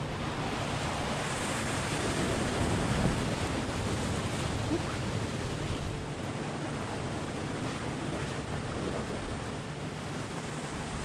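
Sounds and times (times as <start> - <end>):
water rushing and churning: 0.0 - 11.0.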